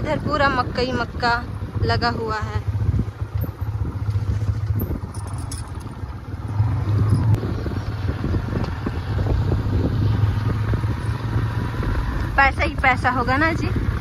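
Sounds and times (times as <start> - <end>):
motorcycle engine hum: 0.0 - 14.0
wind rumble on microphone: 0.0 - 14.0.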